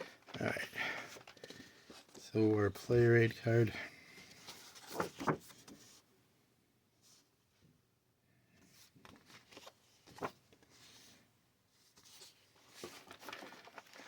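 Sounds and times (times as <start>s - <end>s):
rustling of cardboard and paper: 0.0s - 6.1s, 8.6s - 14.0s.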